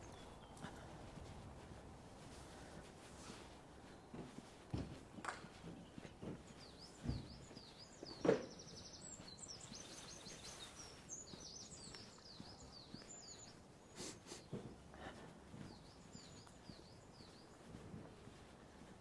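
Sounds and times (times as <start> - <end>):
footsteps on path: 0.0 - 19.0
songbirds chirping: 0.0 - 19.0.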